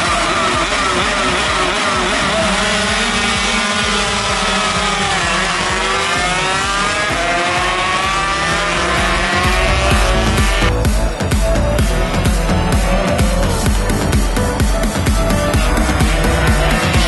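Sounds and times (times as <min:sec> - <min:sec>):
racing motorcycles revving: 0:00.0 - 0:17.0.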